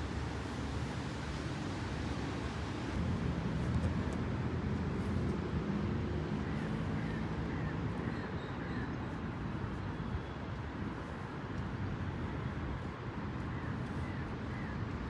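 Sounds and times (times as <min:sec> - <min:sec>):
low rumble of distant traffic: 0:00.0 - 0:15.0.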